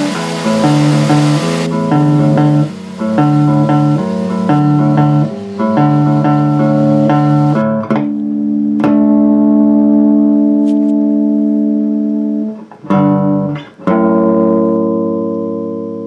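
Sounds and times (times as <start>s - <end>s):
plucked bass guitar: 0.0s - 16.0s.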